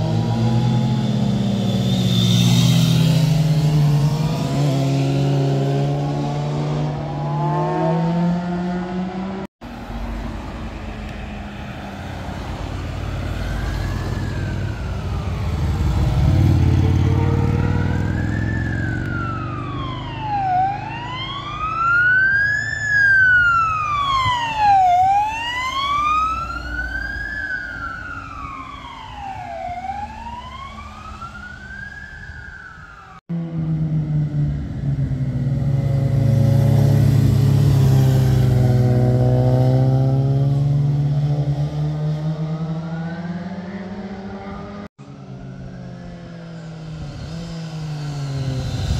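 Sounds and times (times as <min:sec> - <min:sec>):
ambulance siren wailing: 0:00.0 - 0:09.0, 0:09.9 - 0:36.4, 0:42.2 - 0:48.9
motorcycle engines: 0:00.0 - 0:48.9.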